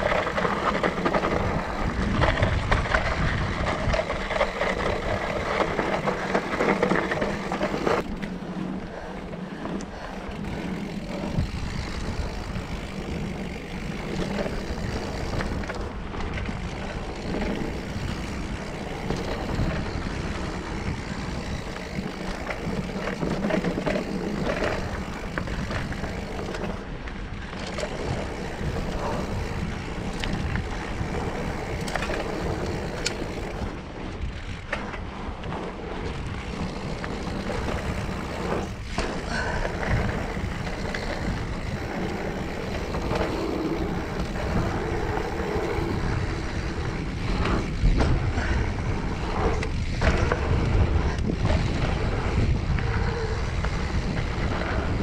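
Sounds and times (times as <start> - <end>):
bike clicks and clatters: 0.0 - 55.0
tyres rolling over dirt and rocks: 0.0 - 55.0.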